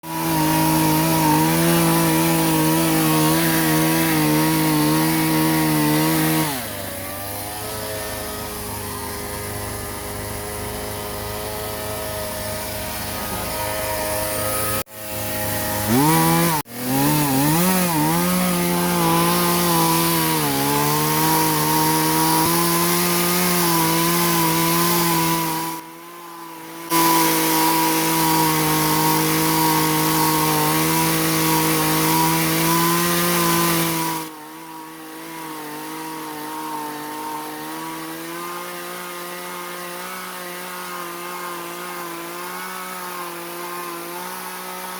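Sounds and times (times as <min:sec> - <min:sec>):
chainsaw engine revving: 0:00.0 - 0:44.9.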